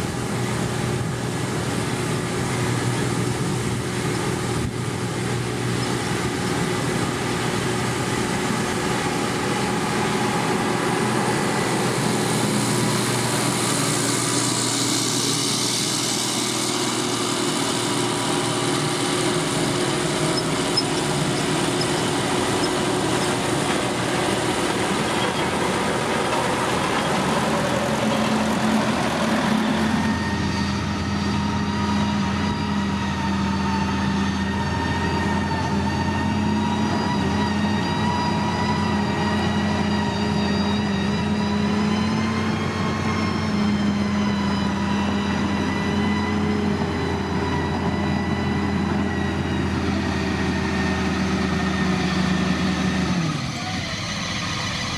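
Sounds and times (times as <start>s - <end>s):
heavy machinery engines running: 0.0s - 54.9s.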